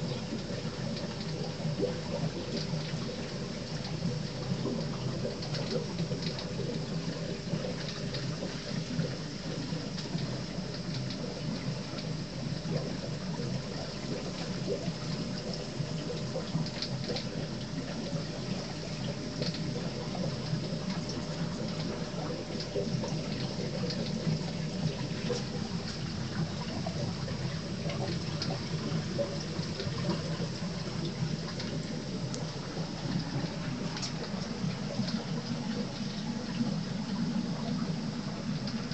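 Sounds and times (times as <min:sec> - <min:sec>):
aquarium water splashing: 0:00.0 - 0:38.9
faint crackling ticks: 0:00.3 - 0:18.4, 0:19.0 - 0:26.1, 0:27.7 - 0:36.7.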